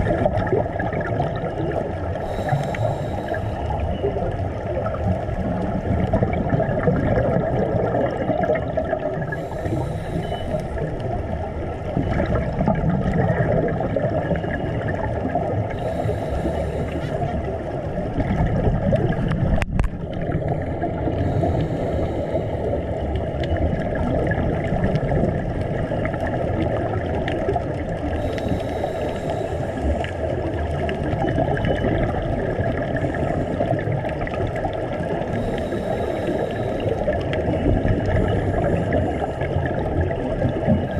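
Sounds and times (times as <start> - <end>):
diver's regulator bubbles: 0.0 - 40.9
muffled underwater rush: 0.0 - 40.9.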